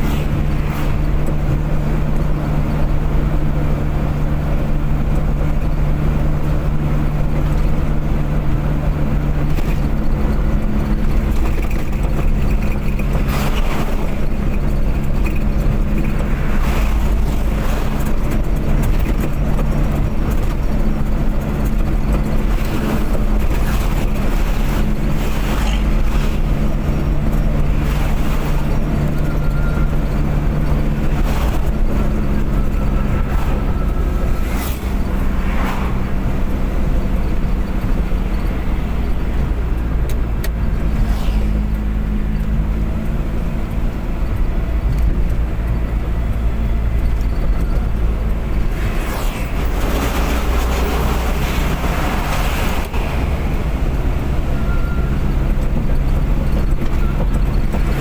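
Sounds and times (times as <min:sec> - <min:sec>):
car engine running: 0:00.0 - 0:58.0
road and tyre noise: 0:00.0 - 0:58.0.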